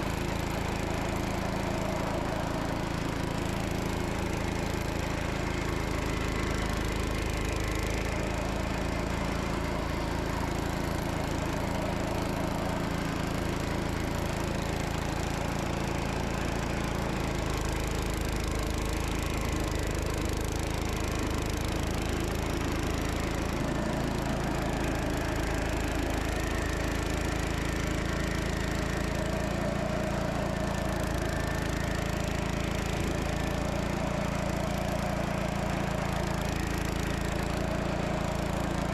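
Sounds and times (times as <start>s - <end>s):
snow blower engine running: 0.0s - 38.9s.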